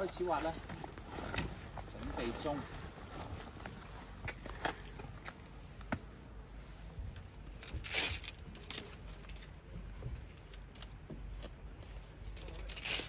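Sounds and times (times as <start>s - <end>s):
faint rustles: 0.0s - 13.0s.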